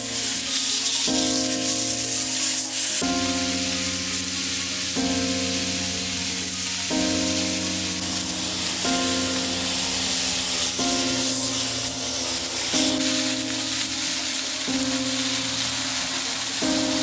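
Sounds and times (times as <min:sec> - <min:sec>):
background music chords: 0:00.0 - 0:17.0
meat sizzling on a griddle: 0:00.0 - 0:17.0.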